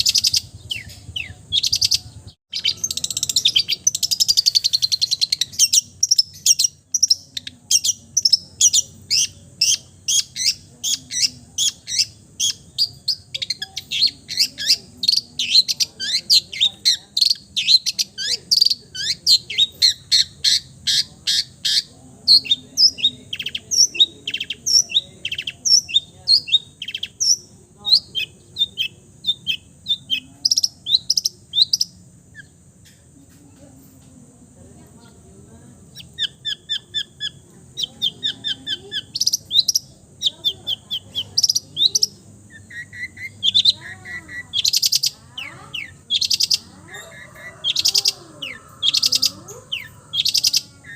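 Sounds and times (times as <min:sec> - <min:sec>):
bird singing sharp high chirps: 0:00.0 - 0:32.6, 0:35.9 - 0:50.9.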